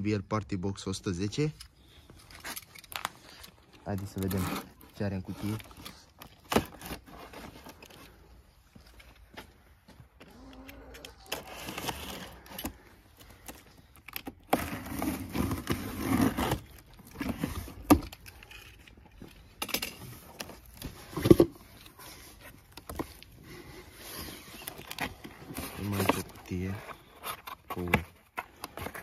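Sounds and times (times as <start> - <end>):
cardboard scraping and rustling: 2.4 - 8.2, 11.2 - 29.0.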